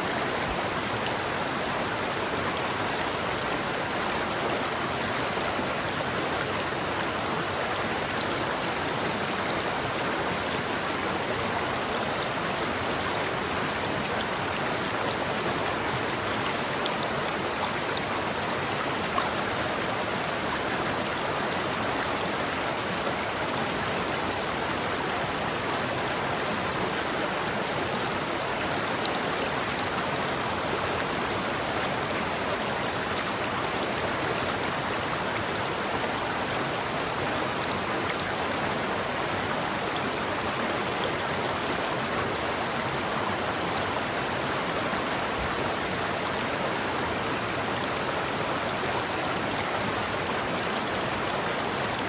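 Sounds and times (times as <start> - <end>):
river water rushing over rocks: 0.0 - 52.0.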